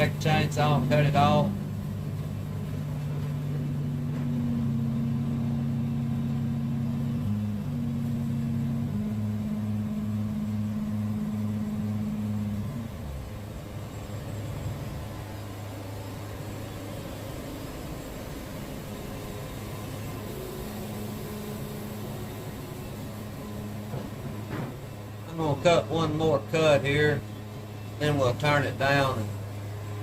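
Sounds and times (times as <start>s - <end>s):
sawmill machine hum: 0.0s - 30.0s.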